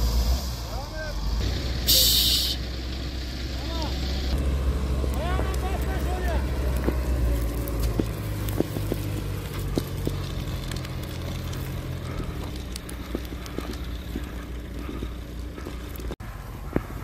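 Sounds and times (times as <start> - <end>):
fire truck engine humming: 0.0 - 17.0.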